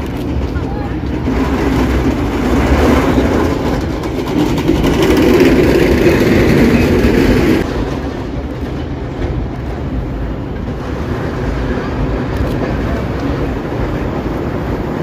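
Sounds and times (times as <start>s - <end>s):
tram wheels on rails: 0.0s - 15.0s.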